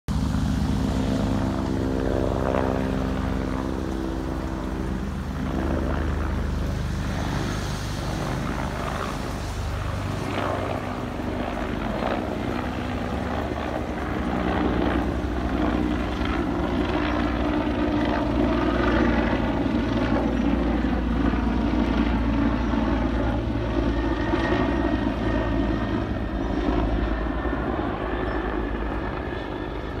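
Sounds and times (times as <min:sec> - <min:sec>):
helicopter rotor rumble: 0:00.1 - 0:30.0.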